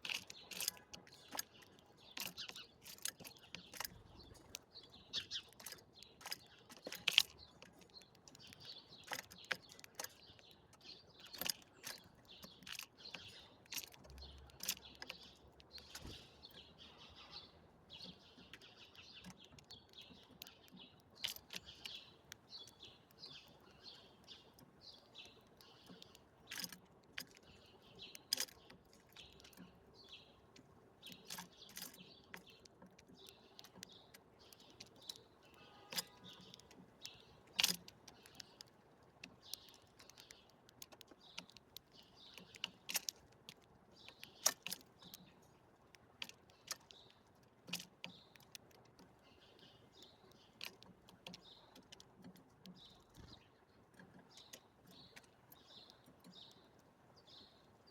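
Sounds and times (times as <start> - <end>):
birds chirping and twittering: 0.0 - 57.9.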